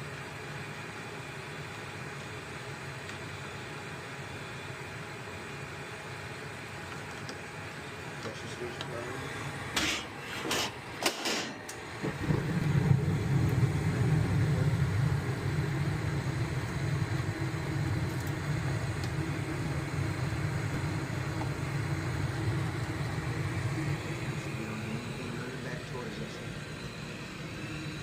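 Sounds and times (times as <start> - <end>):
furnace motor humming: 0.1 - 28.0.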